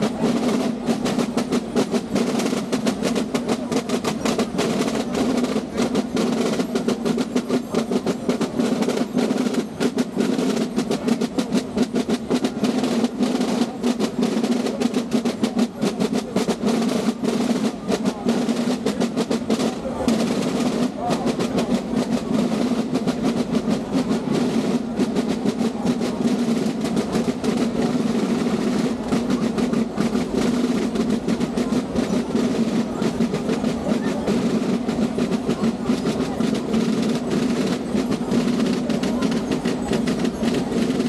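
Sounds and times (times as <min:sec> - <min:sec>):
drums beating fast rhythm: 0:00.0 - 0:41.0.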